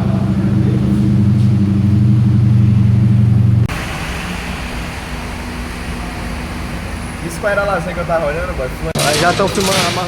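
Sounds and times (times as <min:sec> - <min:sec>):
car engine running: 0:00.0 - 0:09.0.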